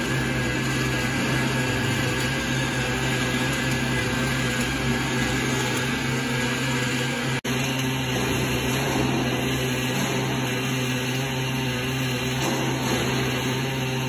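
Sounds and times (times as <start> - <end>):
arc welder buzzing hiss: 0.0 - 14.0.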